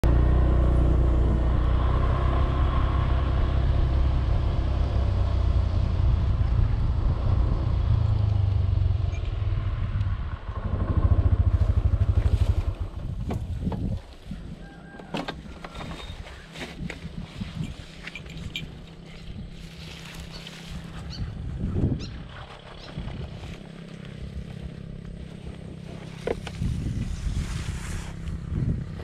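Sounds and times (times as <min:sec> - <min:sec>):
motor scooter engine: 0:00.0 - 0:14.1, 0:18.8 - 0:29.0.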